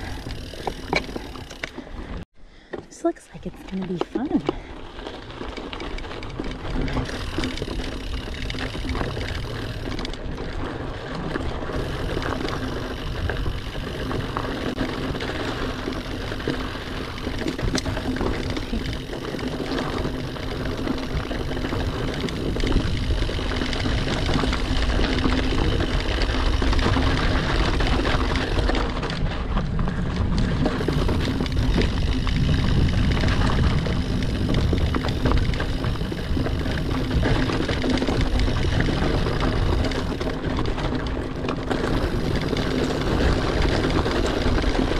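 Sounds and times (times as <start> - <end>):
bike tyres rolling over dirt: 0.0 - 2.7, 3.7 - 44.9
bike clicks and rattles: 0.0 - 44.9
wind rumbling on microphone: 4.8 - 44.9.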